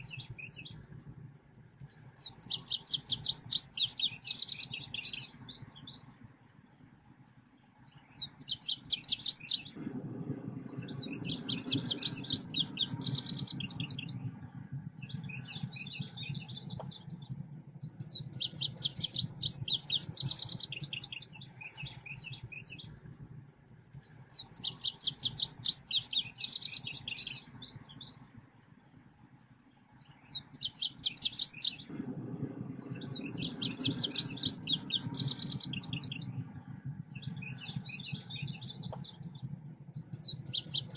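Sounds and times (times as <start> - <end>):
low hum: 0.0 - 40.9.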